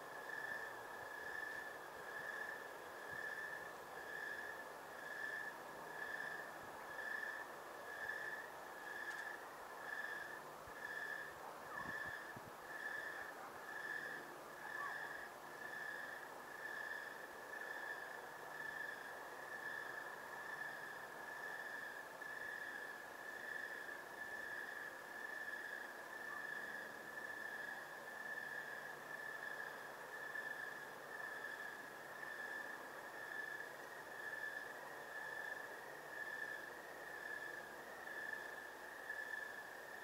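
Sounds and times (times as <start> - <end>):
cricket chirping: 0.0 - 40.0
faint background hiss: 0.0 - 40.0.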